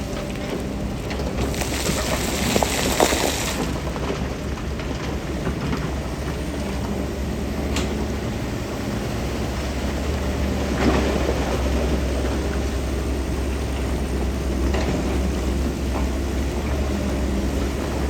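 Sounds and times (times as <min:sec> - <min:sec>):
heavy diesel machinery rumbling: 0:00.0 - 0:18.0.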